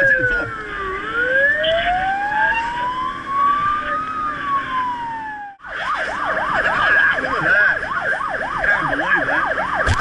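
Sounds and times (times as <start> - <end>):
fire truck wail siren: 0.0 - 10.0.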